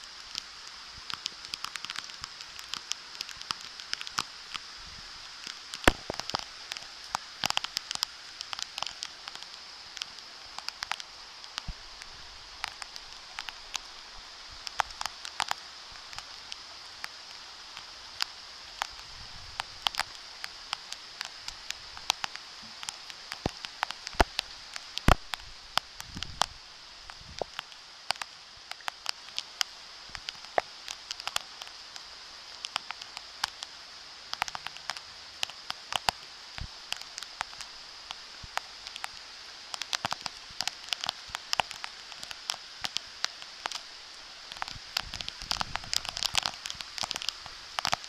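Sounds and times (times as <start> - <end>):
rain hissing on paving: 0.0 - 48.0
raindrops tapping: 0.0 - 48.0.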